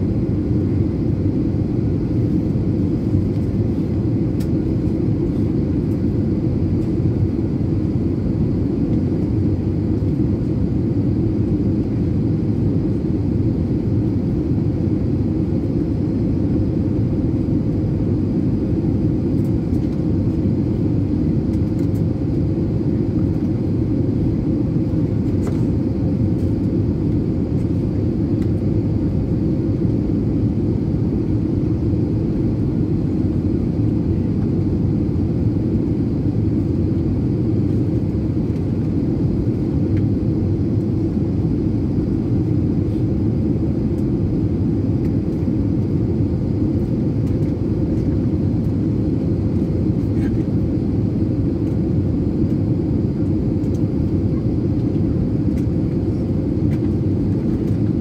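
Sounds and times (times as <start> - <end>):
airliner cabin rumble: 0.0 - 58.0
faint steady hum: 0.0 - 58.0.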